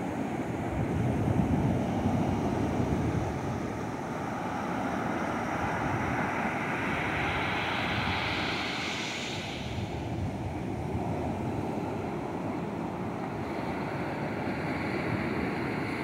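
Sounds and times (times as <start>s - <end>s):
hiss of rushing water: 0.0s - 16.0s
ocean surf breaking: 0.0s - 16.0s
wind buffeting microphone: 0.3s - 16.0s.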